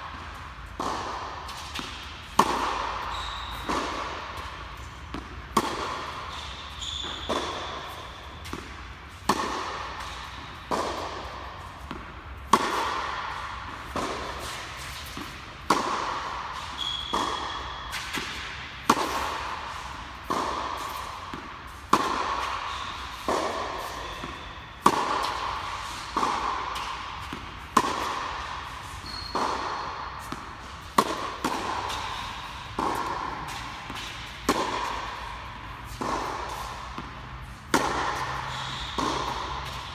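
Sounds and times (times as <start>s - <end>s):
tennis ball hits echoing: 0.0s - 39.9s.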